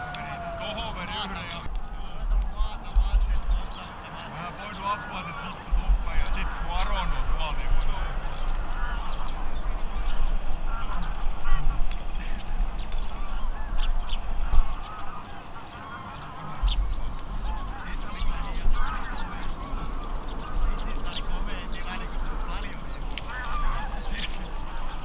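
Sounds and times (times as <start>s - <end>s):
wind rumble on microphone: 0.0s - 4.2s, 5.6s - 25.0s
geese honking: 0.0s - 25.0s.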